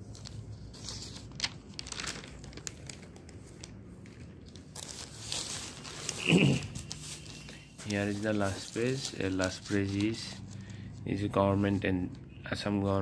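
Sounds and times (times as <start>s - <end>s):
newspaper pages rustling: 0.0s - 12.1s.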